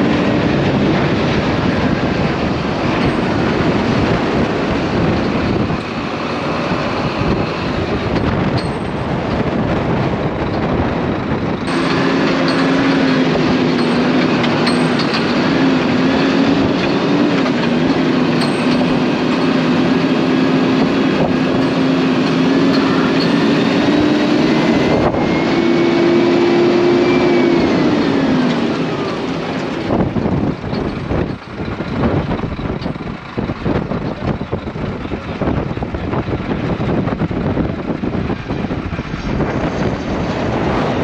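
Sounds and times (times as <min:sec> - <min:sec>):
engine running: 0:00.0 - 0:41.0
wind gusts on microphone: 0:00.0 - 0:41.0.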